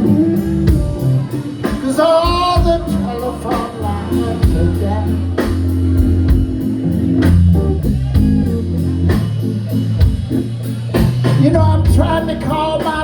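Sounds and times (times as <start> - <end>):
bass guitar: 0.0 - 13.0
person singing blues: 0.0 - 13.0
steady drum beat: 0.0 - 13.0.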